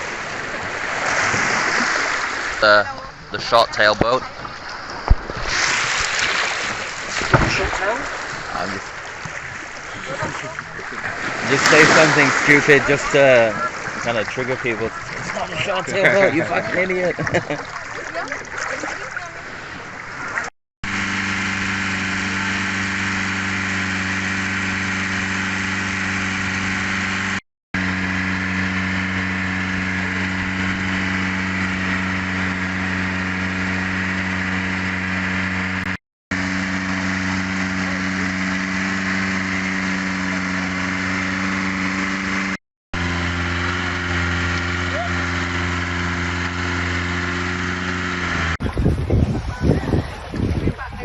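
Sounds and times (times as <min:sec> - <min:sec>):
boat engine droning: 0:00.0 - 0:50.3.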